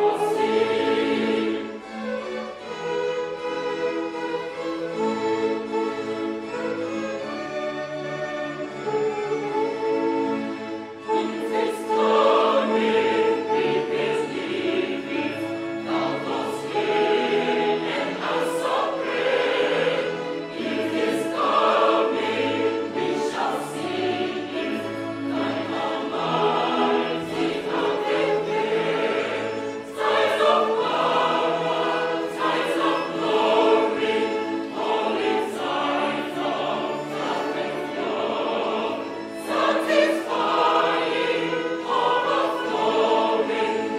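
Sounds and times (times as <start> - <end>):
choir singing a hymn: 0.0 - 8.5, 10.9 - 43.9
violins: 0.0 - 43.9.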